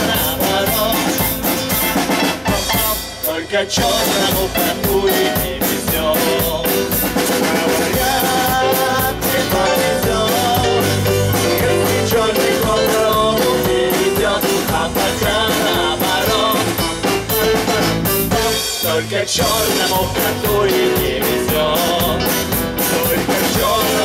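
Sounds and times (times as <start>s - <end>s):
rock and roll band playing: 0.0s - 24.0s.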